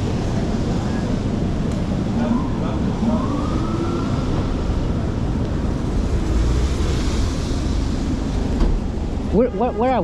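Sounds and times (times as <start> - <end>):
wet street traffic roar: 0.0 - 10.0.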